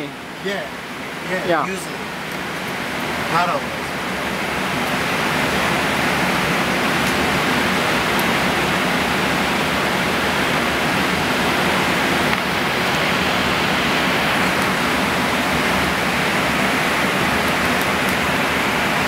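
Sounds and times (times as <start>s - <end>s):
cockpit ventilation: 0.0s - 19.0s
airflow around aircraft nose: 0.8s - 19.0s.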